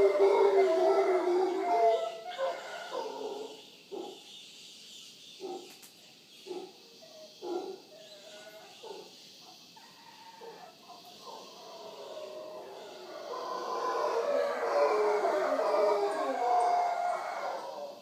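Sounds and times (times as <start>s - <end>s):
howler monkeys calling: 0.0s - 4.3s, 6.4s - 18.0s.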